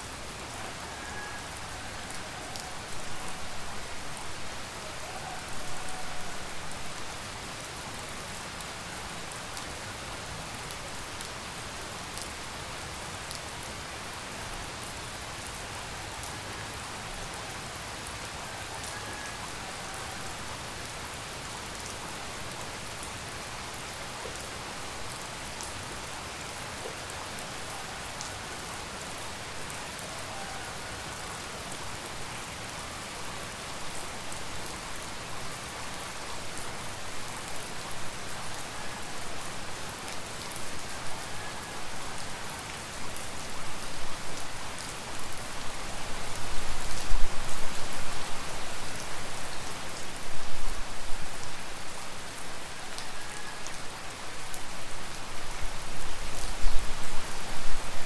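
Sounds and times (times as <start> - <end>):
rain falling on surfaces: 0.0 - 58.0.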